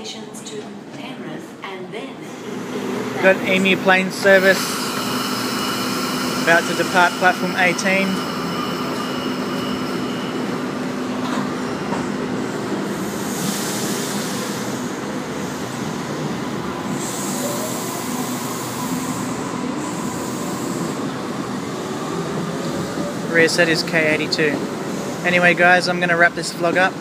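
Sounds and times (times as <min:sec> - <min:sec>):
electric train pulling out: 0:02.5 - 0:27.0.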